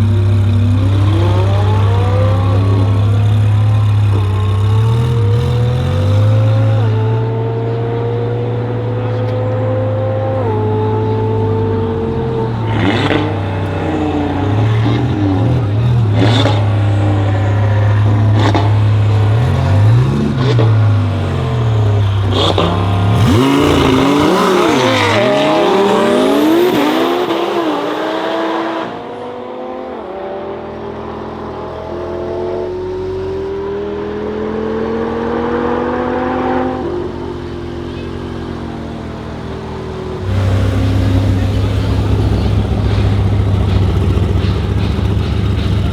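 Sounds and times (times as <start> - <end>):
car accelerating through gears: 0.0 - 45.9
sports car engine revving: 0.0 - 45.9.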